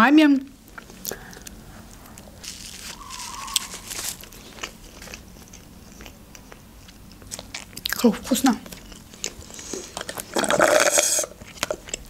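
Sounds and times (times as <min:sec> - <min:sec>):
person chewing a burger: 0:00.6 - 0:08.0, 0:08.7 - 0:12.0.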